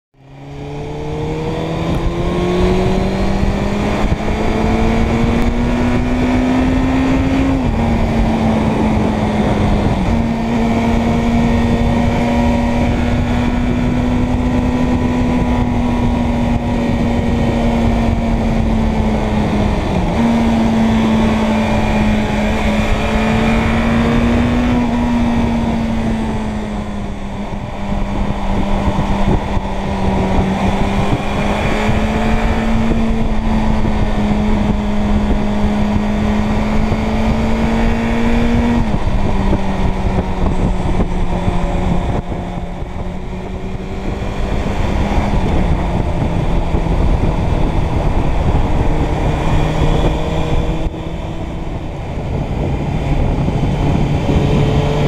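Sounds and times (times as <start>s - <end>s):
motorcycle engine running: 0.2s - 55.0s.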